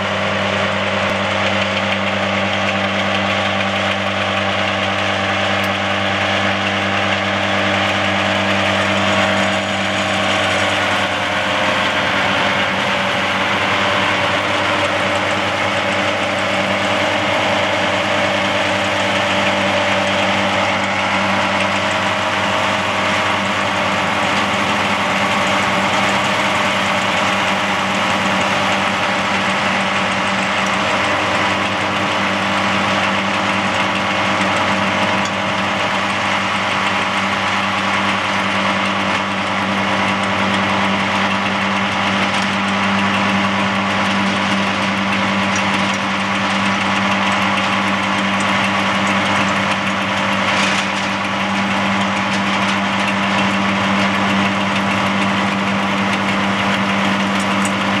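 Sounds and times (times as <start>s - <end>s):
stump grinder droning: 0.0s - 58.0s.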